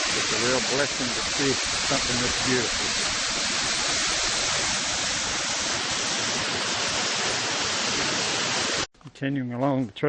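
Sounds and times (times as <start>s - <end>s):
waterfall roaring: 0.0s - 8.9s.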